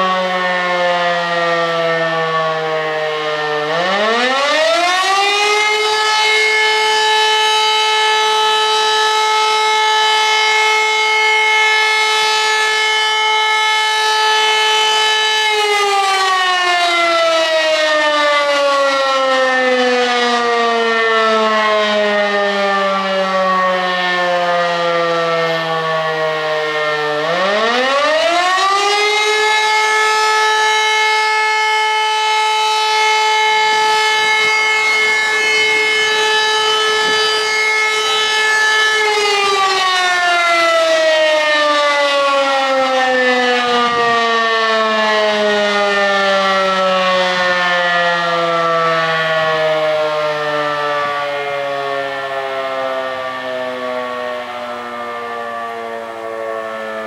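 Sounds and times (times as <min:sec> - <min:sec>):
electromechanical siren wailing: 0:00.0 - 0:57.0.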